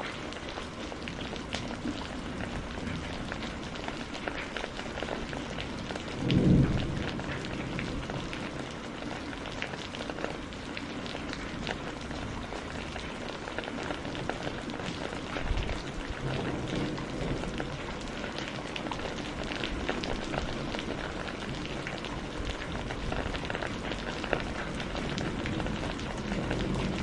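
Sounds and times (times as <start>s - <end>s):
rain drops striking a surface: 0.0s - 27.0s.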